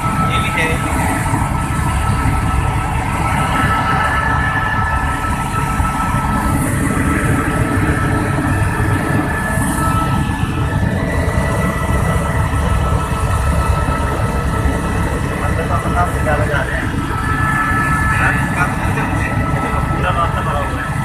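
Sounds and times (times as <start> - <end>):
helicopter engine and rotor drone: 0.0 - 21.0
high turbine whine: 0.0 - 21.0.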